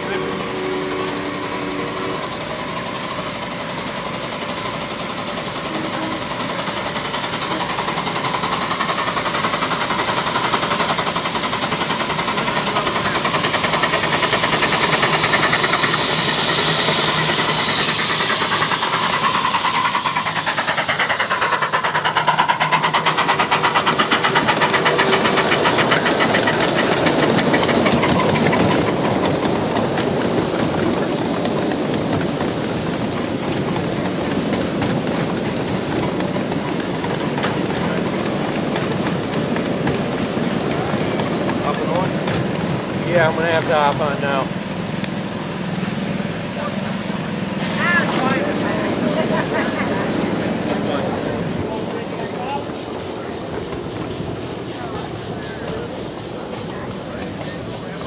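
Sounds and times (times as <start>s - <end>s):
steam hissing: 0.0s - 58.0s
steam locomotive exhaust chuffing: 0.0s - 58.0s.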